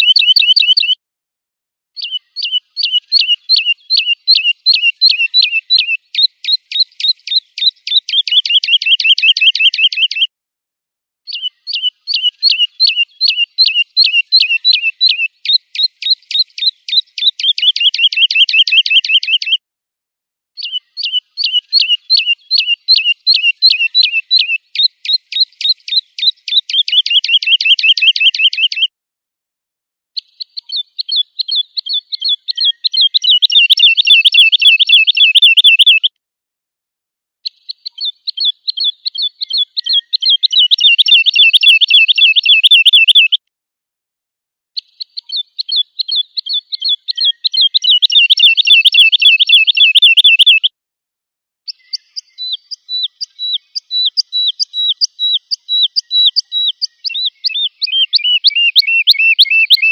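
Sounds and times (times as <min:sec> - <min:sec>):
lark song chirps and trill: 0:00.0 - 0:01.0, 0:02.0 - 0:10.3, 0:11.3 - 0:19.6, 0:20.6 - 0:28.9, 0:30.2 - 0:36.2, 0:37.4 - 0:43.4, 0:44.8 - 0:50.8, 0:51.7 - 0:59.9.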